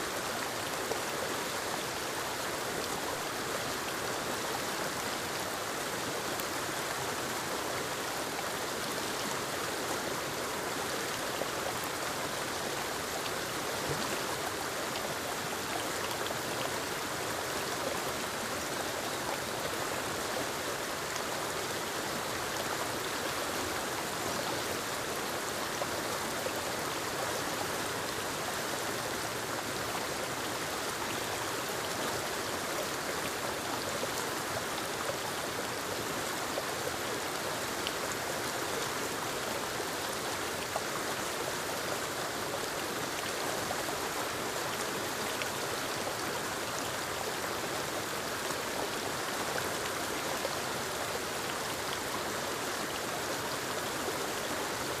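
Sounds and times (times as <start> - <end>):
stream gurgling: 0.0 - 55.0
waterfall rushing down rocks: 0.0 - 55.0.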